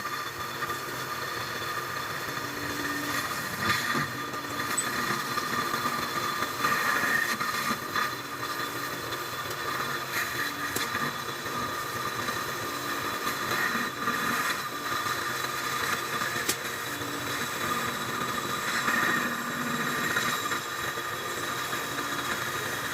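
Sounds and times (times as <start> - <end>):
metal lathe running: 0.0 - 22.9.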